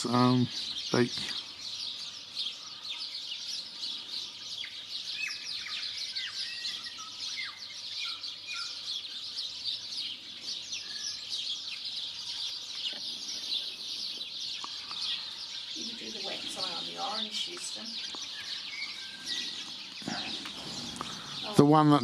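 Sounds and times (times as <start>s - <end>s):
lower whistled bird notes: 0.0s - 21.8s
birds chirping chatter: 0.0s - 22.0s.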